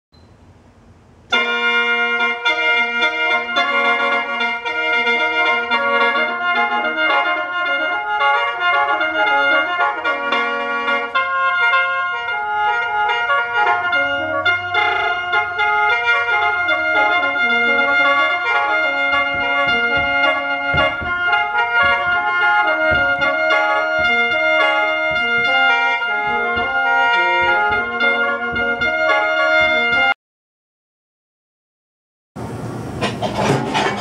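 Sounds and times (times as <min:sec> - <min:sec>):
instrumental intro music: 0:01.3 - 0:30.2.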